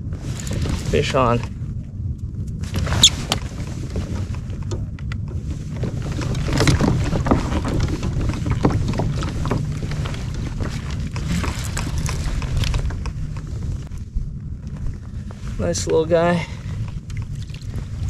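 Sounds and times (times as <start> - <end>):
wind rumbling on microphone: 0.0 - 18.0
water lapping against hull: 2.7 - 18.0.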